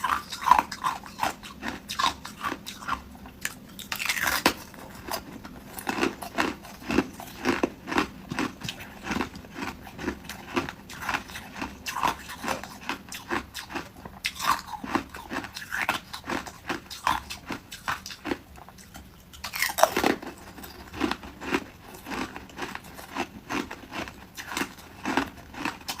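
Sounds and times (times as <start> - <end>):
ice cubes crunched by teeth: 0.0 - 18.4, 19.4 - 26.0.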